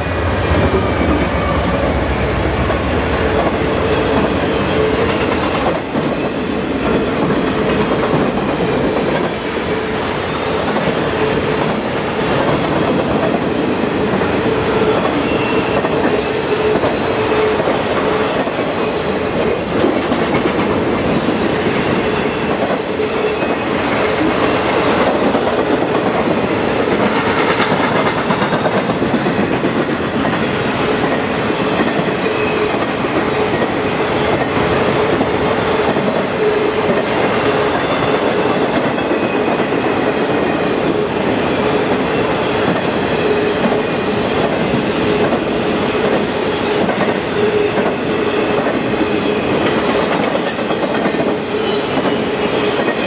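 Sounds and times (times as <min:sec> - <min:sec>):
freight train wheels rumbling: 0:00.0 - 0:53.0
clickety-clack over rail joints: 0:02.5 - 0:53.0.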